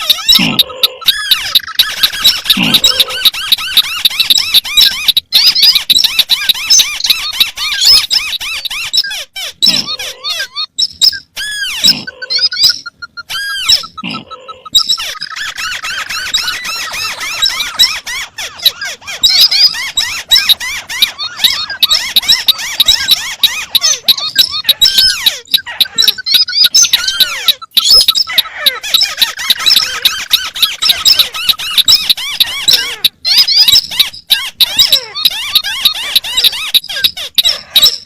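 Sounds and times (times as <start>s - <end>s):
bird squeaky chirps and chatters: 0.0s - 38.0s.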